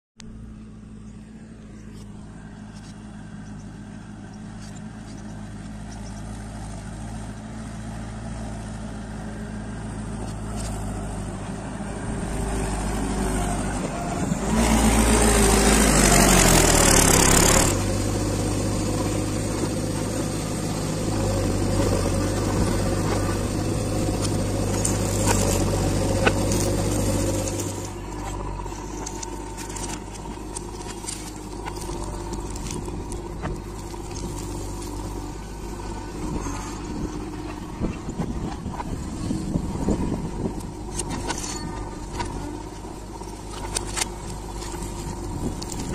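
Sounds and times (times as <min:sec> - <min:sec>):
diesel engines running: 0:00.2 - 0:45.9
loud rough engine noise: 0:00.2 - 0:45.9.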